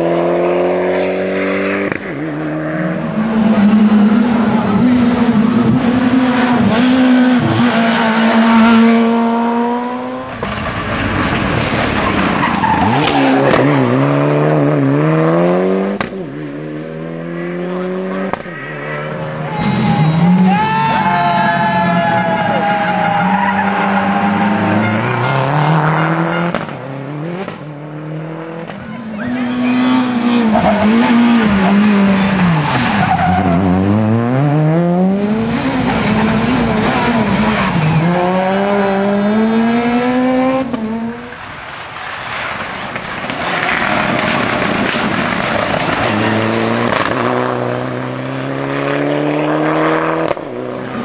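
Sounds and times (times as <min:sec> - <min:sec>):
rally car engines at full throttle: 0:00.0 - 0:51.0.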